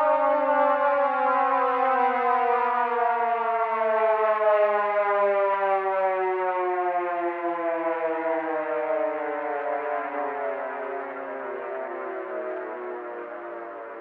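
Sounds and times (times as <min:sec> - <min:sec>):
air-raid siren wailing: 0:00.0 - 0:14.0.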